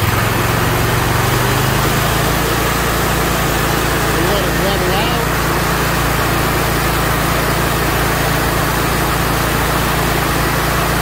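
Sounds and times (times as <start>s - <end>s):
stump grinder engine at full throttle: 0.0s - 11.0s.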